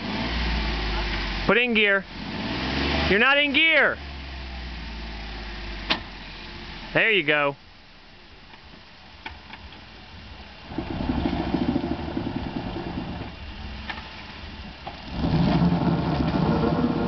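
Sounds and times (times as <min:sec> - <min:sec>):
car engine idling: 0:00.0 - 0:02.3, 0:03.1 - 0:17.0
car engine pulling under load: 0:00.0 - 0:07.0, 0:08.4 - 0:17.0.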